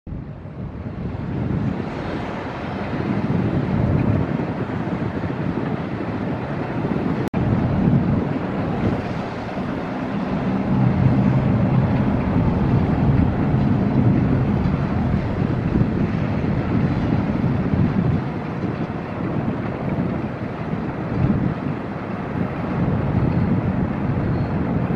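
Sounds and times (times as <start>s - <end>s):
low harbour rumble: 0.1s - 24.9s
wind buffeting microphone: 0.1s - 24.9s.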